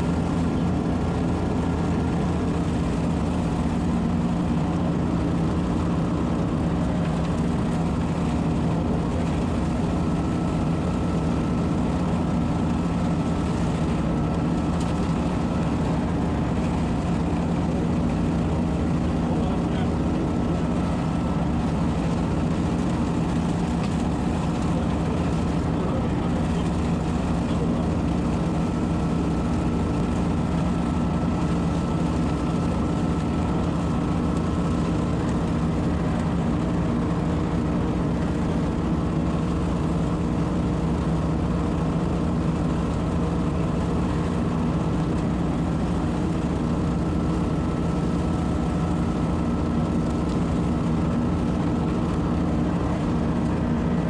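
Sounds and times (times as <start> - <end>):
engine drone with whine: 0.0 - 54.0.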